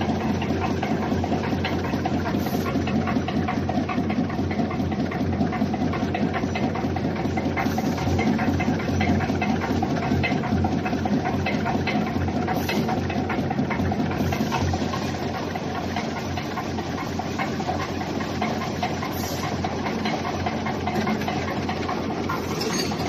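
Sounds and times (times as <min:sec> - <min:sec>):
machine clicks and ticks: 0:00.0 - 0:23.0.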